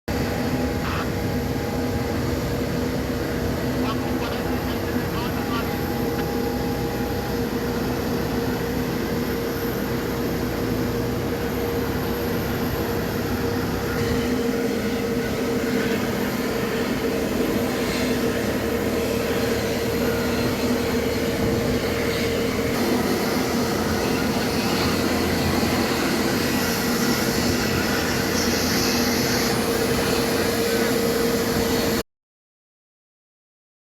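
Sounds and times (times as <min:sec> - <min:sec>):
jet engines droning: 0:00.1 - 0:32.0.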